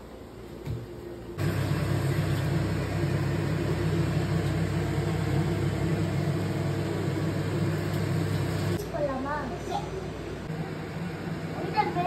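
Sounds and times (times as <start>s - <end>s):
machine hum: 1.1s - 8.8s, 9.4s - 12.0s.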